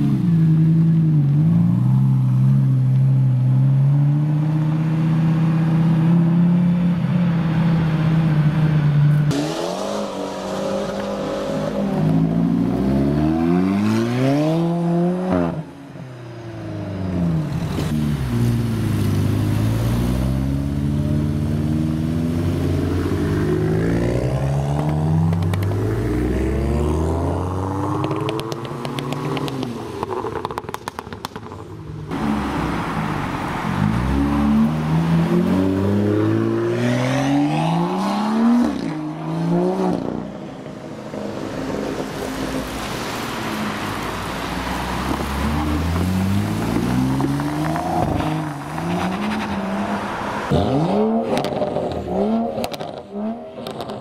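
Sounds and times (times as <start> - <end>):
sports cars accelerating: 0.0 - 15.8, 16.5 - 54.0.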